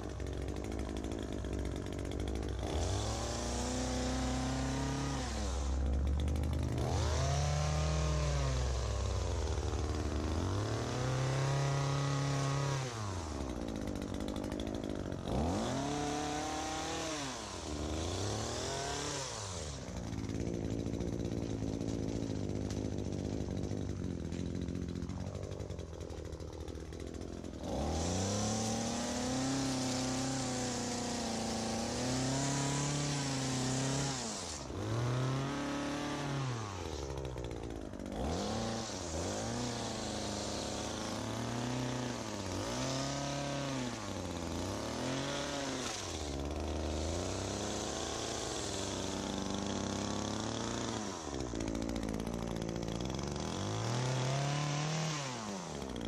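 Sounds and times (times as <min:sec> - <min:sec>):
hedge trimmer engine revving: 0:00.0 - 0:56.0.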